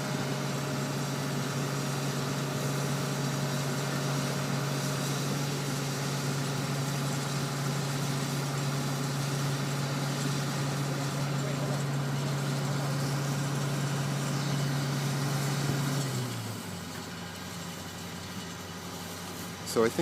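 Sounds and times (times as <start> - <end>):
heavy diesel crane engine running: 0.0 - 20.0.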